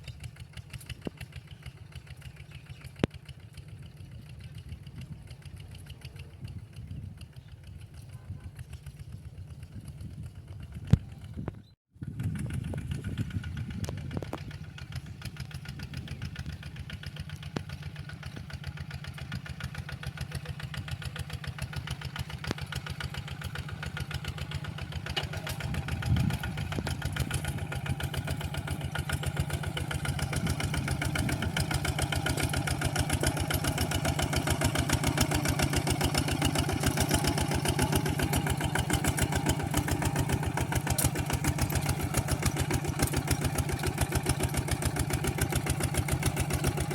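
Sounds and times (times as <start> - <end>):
tractor engine chugging: 0.0 - 46.9.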